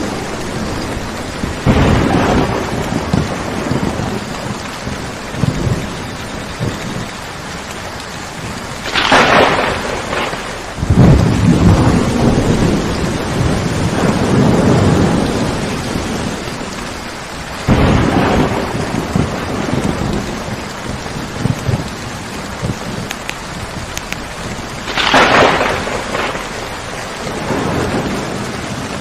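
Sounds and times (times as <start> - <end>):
heavy rain: 0.0 - 29.0
low rolling thunder: 0.0 - 29.0
thunder clap: 0.0 - 29.0.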